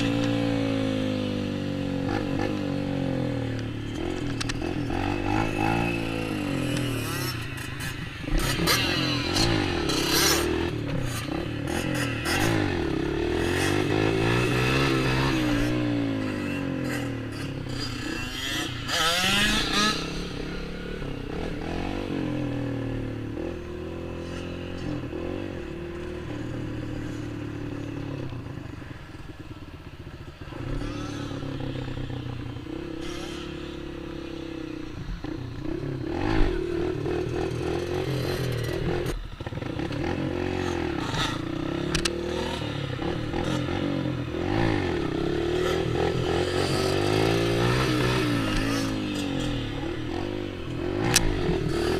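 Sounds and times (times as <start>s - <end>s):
off-road engines revving: 0.0s - 51.9s.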